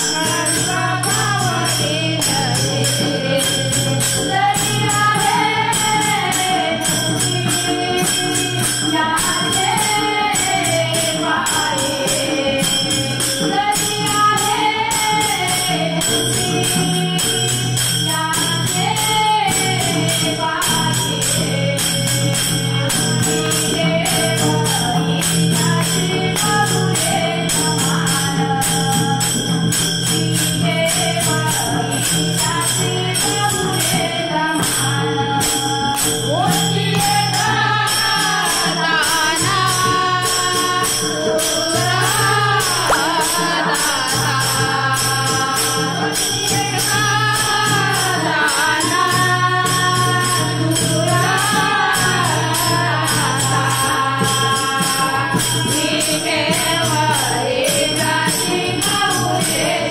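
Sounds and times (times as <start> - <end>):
hand cymbals struck: 0.0 - 59.9
person singing devotional melody: 0.0 - 59.9.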